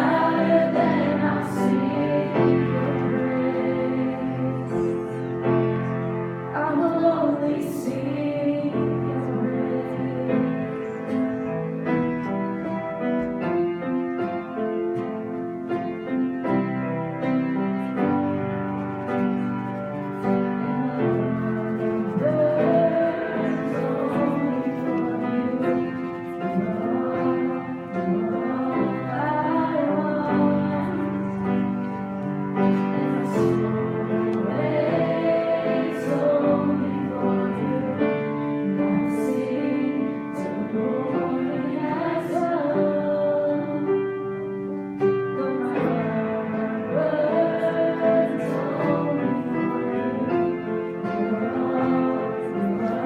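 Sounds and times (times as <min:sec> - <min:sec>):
people singing: 0:00.0 - 0:05.9, 0:06.5 - 0:11.6, 0:20.2 - 0:44.3, 0:45.1 - 0:53.0
worship song on piano: 0:00.0 - 0:53.0.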